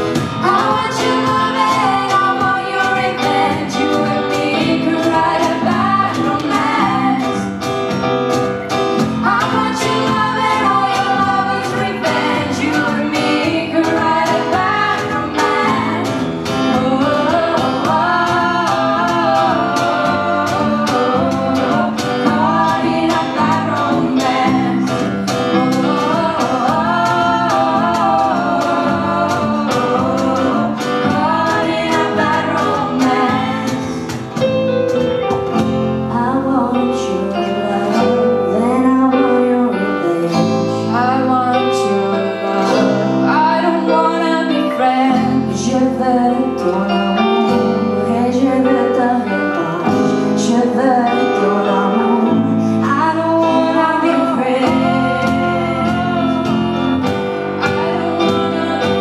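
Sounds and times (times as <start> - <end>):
women singing: 0.0 - 34.4, 36.1 - 59.0
bass guitar: 0.0 - 59.0
electric guitar: 0.0 - 59.0
keyboards: 0.0 - 59.0.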